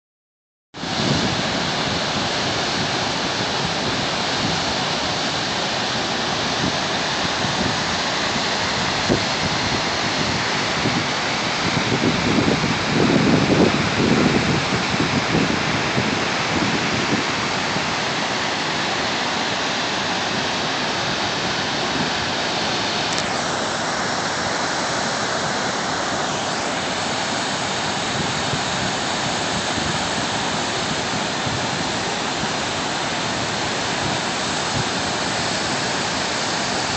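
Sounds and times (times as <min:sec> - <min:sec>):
whitewater rushing over rocks: 0:00.8 - 0:36.9.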